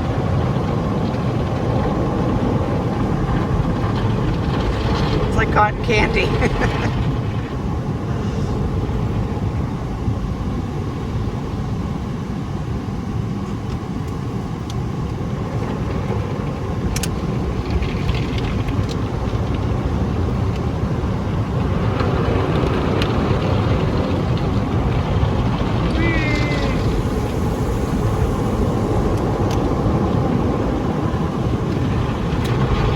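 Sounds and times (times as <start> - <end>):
car wash spray and machinery: 0.0 - 32.9.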